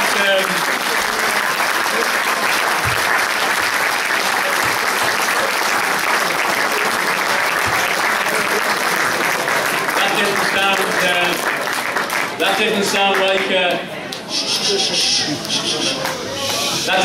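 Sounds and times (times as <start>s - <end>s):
audience applauding: 0.0s - 13.6s, 14.6s - 17.0s.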